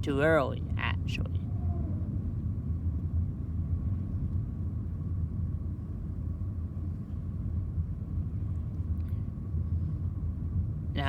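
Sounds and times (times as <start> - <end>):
car cabin rumble: 0.0 - 11.0
faint steady whine: 0.0 - 11.0.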